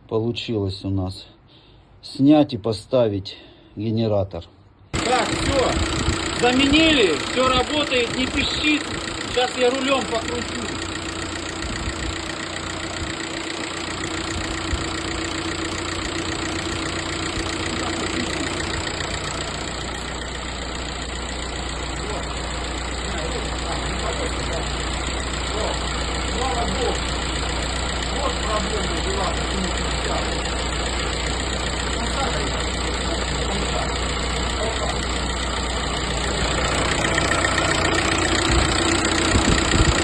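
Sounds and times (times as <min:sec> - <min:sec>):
car engine idling: 0:04.9 - 0:40.0.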